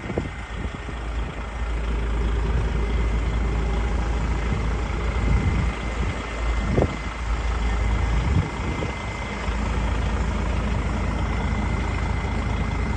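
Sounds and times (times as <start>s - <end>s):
truck diesel engine idling: 0.0s - 12.9s.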